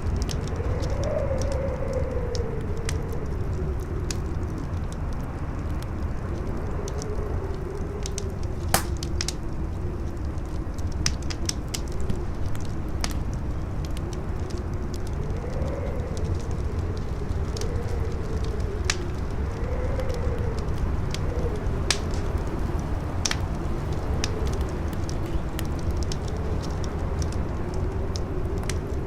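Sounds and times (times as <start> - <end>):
howling wind whistling: 0.0 - 29.0
wood fire crackling: 0.0 - 29.0.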